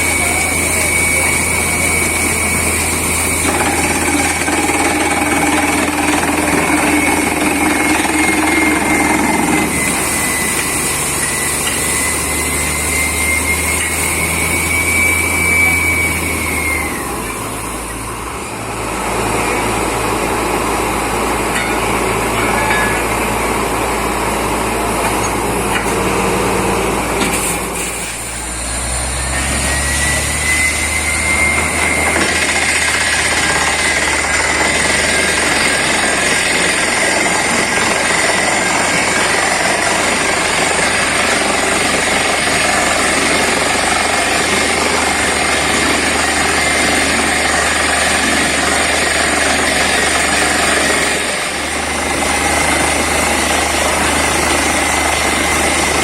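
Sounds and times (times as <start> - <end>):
drilling rig running: 0.0 - 56.0
high whine: 0.0 - 56.0.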